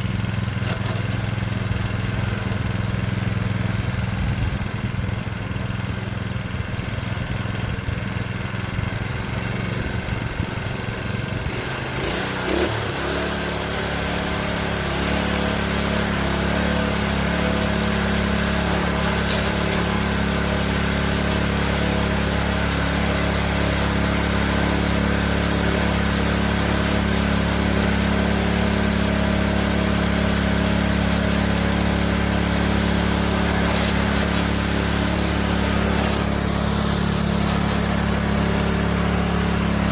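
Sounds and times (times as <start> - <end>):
engine rattle: 0.0 - 39.9
small engine running: 0.0 - 39.9.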